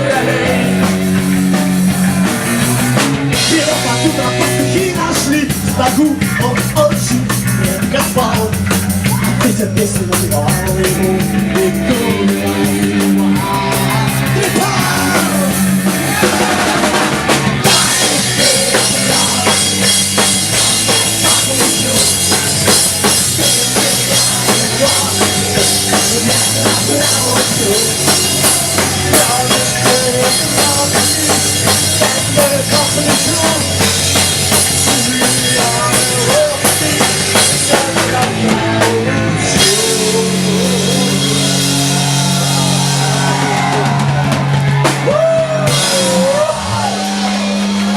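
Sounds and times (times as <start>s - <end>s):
bass notes: 0.0s - 47.9s
drum kit with ringing cymbals: 0.0s - 47.9s
instrumental rock band: 0.0s - 47.9s.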